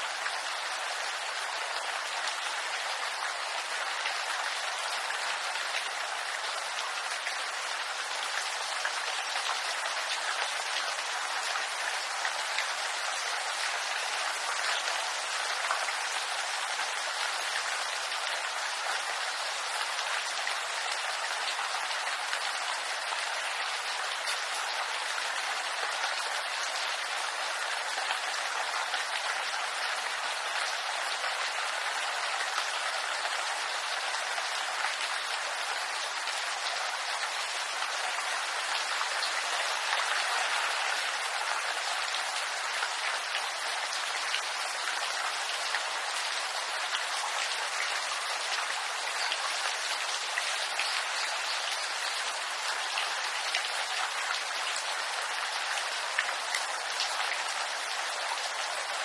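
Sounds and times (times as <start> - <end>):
rain on leaves: 0.0 - 59.0.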